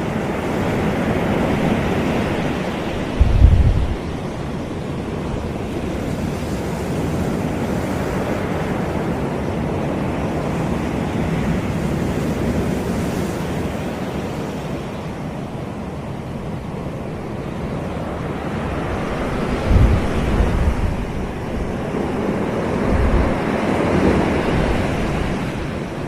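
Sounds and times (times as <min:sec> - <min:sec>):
waves washing on shore: 0:00.0 - 0:26.0
wind on microphone: 0:00.0 - 0:26.0.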